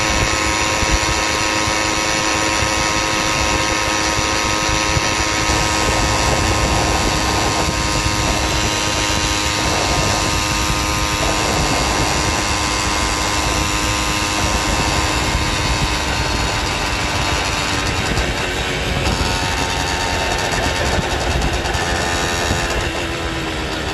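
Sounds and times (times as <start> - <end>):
small engine running steadily: 0.0 - 23.9
wind rushing over microphone: 0.0 - 23.9.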